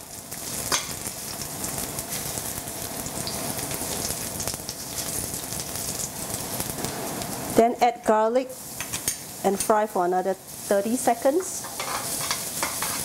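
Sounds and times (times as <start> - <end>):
ginger sizzling in hot oil: 0.0 - 13.0.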